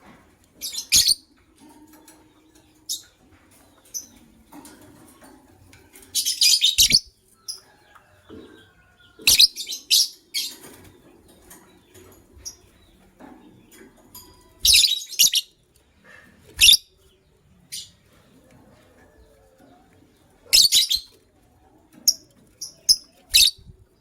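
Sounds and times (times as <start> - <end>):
lovebirds chirping: 0.6 - 5.1, 5.7 - 15.6, 16.4 - 24.0.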